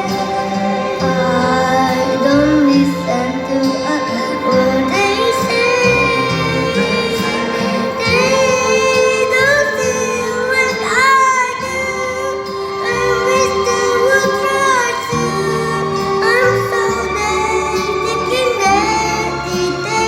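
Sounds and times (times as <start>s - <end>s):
backing track: 0.0s - 20.0s
woman singing: 0.0s - 20.0s.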